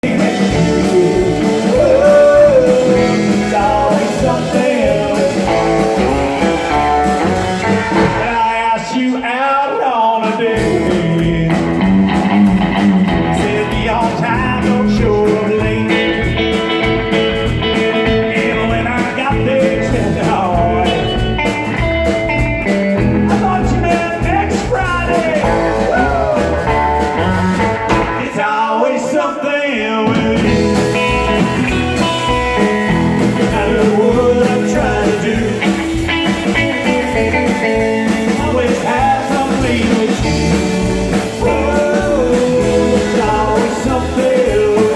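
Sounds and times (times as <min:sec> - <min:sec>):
electric guitar bending notes: 0:00.0 - 0:08.8, 0:10.6 - 0:28.7, 0:30.2 - 0:44.9
bass and drums: 0:00.0 - 0:09.3, 0:10.2 - 0:29.2, 0:29.8 - 0:44.9.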